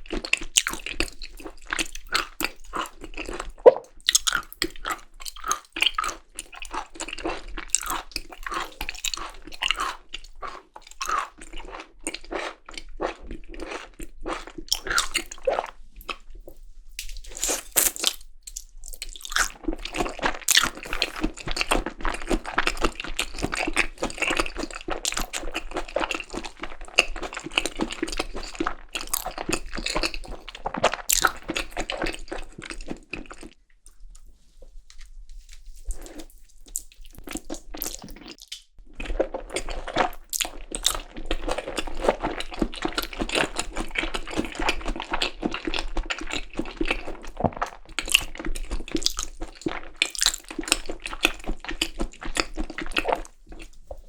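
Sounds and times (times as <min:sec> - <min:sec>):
wet chewing and mouth clicks: 0:00.0 - 0:54.0.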